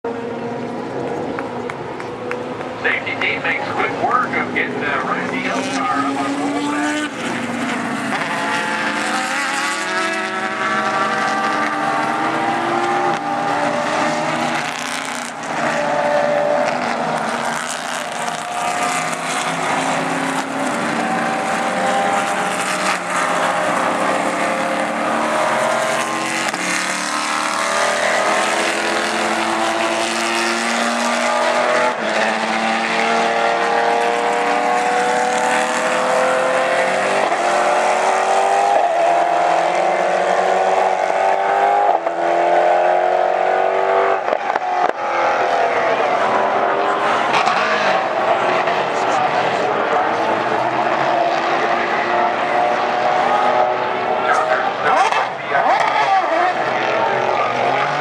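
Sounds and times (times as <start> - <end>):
race car engines revving: 0.1 - 58.0.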